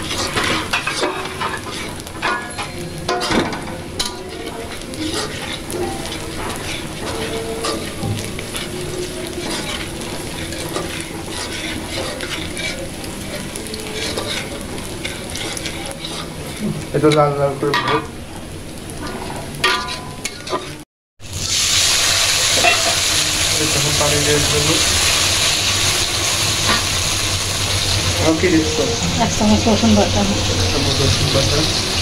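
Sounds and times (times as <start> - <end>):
metal spatula scraping wok: 0.0 - 18.1, 19.0 - 20.8, 22.1 - 29.2
onions sizzling in hot oil: 0.0 - 32.0.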